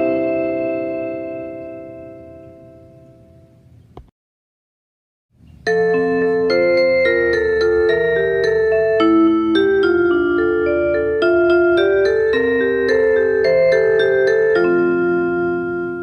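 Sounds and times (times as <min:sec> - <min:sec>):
onboard train chime melody: 0:00.0 - 0:03.3, 0:05.7 - 0:16.0.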